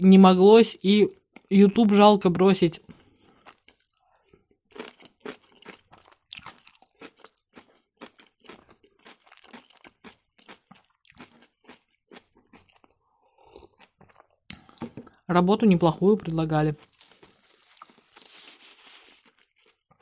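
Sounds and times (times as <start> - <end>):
chewing crunchy food: 1.1 - 1.5, 2.8 - 15.3, 16.2 - 20.0.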